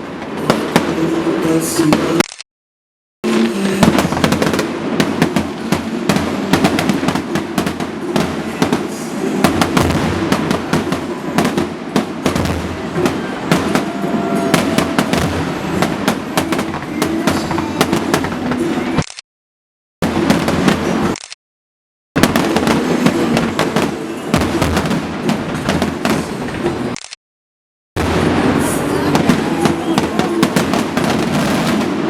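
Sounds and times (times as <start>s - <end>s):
fireworks bangs and crackles: 0.0s - 2.2s, 3.2s - 19.1s, 20.0s - 21.2s, 22.2s - 27.0s, 28.0s - 32.0s.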